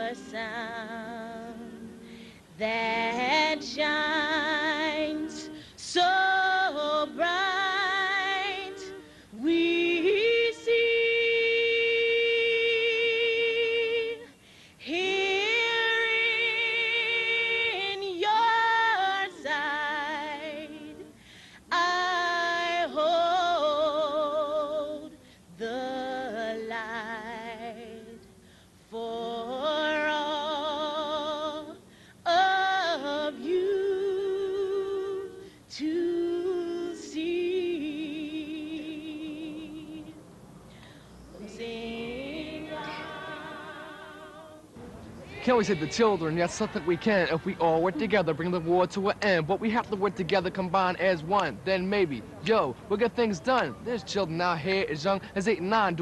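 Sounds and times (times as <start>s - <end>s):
woman singing unaccompanied: 0.0s - 40.3s, 41.3s - 46.4s.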